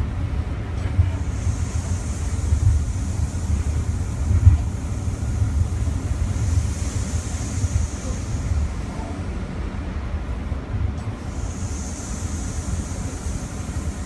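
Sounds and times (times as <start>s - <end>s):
train wheels rumbling: 0.0s - 14.0s
faint hiss: 0.3s - 10.0s, 10.9s - 14.0s.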